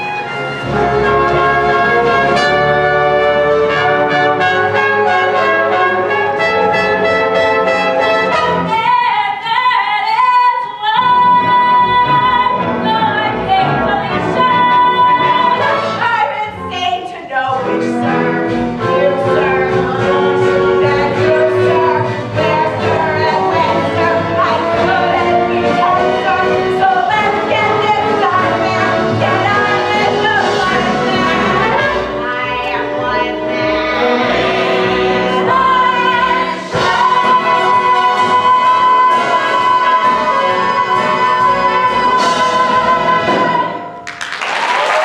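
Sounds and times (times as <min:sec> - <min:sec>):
band with brass playing: 0:00.0 - 0:09.2, 0:11.0 - 0:44.0.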